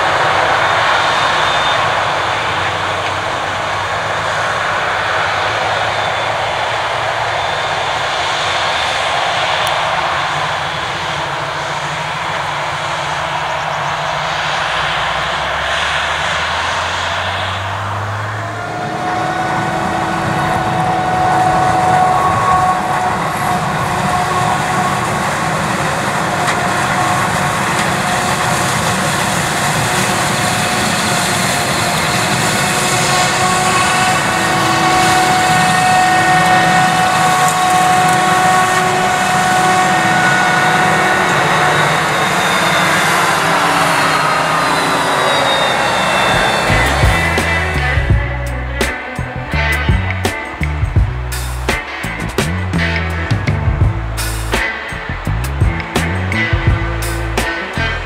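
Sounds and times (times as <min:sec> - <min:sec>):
forage harvester running: 0:08.7 - 0:58.0
low hum rising in pitch: 0:09.4 - 0:58.0.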